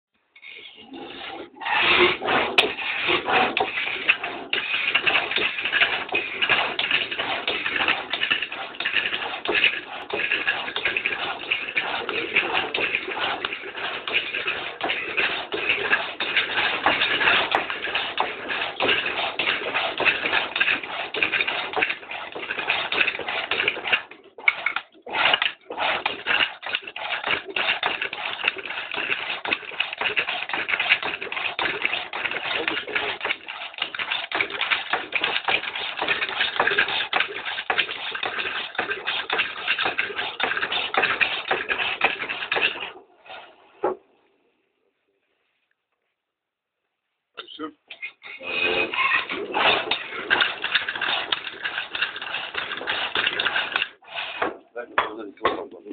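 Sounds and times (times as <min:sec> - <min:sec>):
tool scraping spinning wood: 0:00.4 - 0:44.1, 0:48.2 - 0:55.9.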